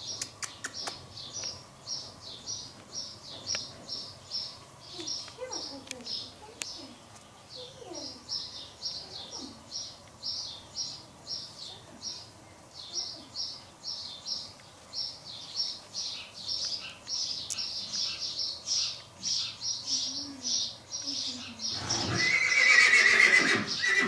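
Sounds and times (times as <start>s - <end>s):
small bird chirping: 0.0s - 24.0s.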